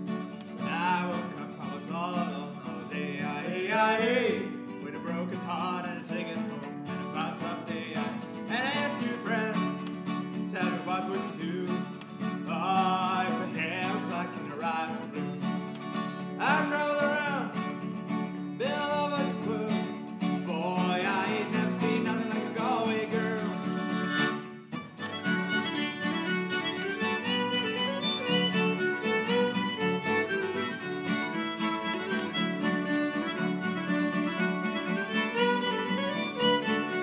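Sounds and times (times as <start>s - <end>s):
fiddle: 0.0s - 37.0s
strummed acoustic guitar: 0.0s - 37.0s
harmonica: 2.7s - 37.0s.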